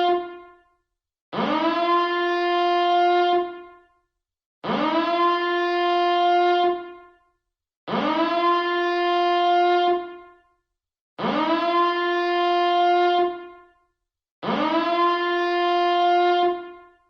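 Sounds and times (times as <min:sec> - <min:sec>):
alarm siren blasts: 0:00.0 - 0:00.7, 0:01.3 - 0:04.0, 0:04.6 - 0:07.3, 0:07.9 - 0:10.5, 0:11.2 - 0:13.8, 0:14.4 - 0:17.0.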